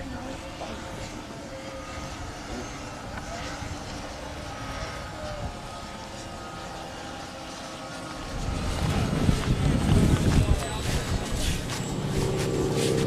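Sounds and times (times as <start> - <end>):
model airplane motors droning: 0.0 - 13.0.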